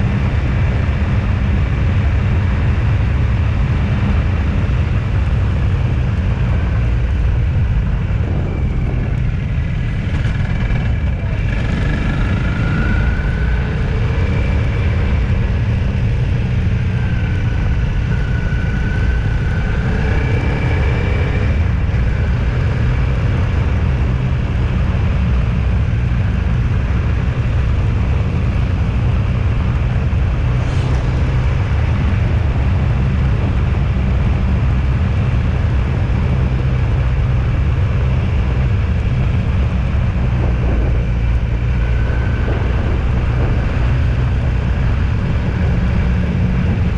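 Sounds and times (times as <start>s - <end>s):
vehicle driving along a road: 0.0s - 46.9s.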